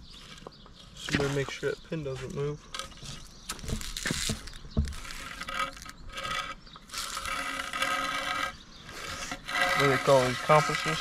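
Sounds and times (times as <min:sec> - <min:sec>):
marker scraping on asphalt: 0:00.0 - 0:11.0.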